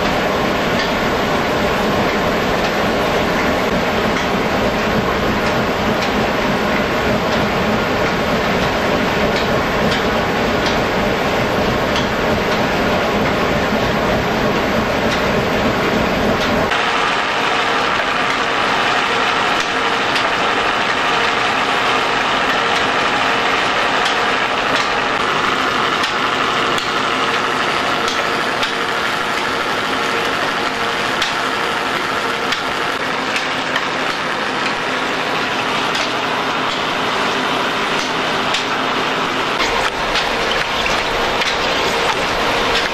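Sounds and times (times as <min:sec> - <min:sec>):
belt-driven mill running: 0:00.0 - 0:42.9.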